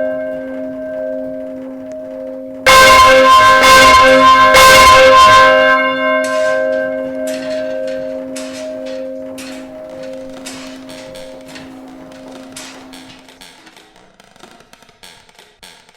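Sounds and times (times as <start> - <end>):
church bell ringing: 0.0 - 13.5
sharp knocks: 0.0 - 15.7.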